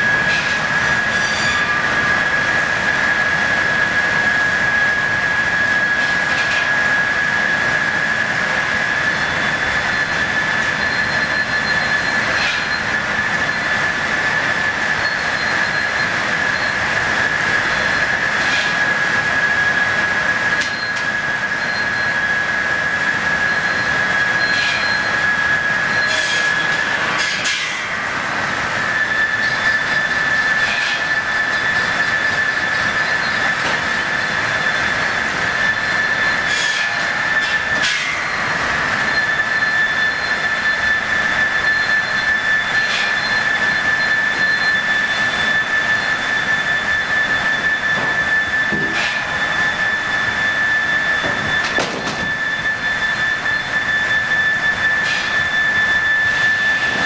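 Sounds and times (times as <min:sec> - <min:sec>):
sawmill machinery whine: 0:00.0 - 0:57.0.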